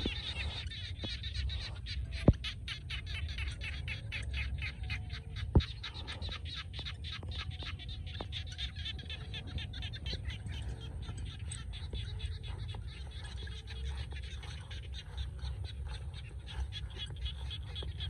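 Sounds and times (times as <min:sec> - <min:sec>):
frogs croaking chorus: 0:00.0 - 0:18.0
wind rumble on microphone: 0:00.0 - 0:18.0.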